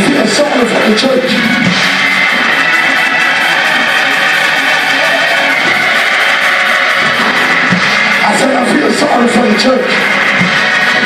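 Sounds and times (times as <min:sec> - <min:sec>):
church band music: 0:00.0 - 0:11.0.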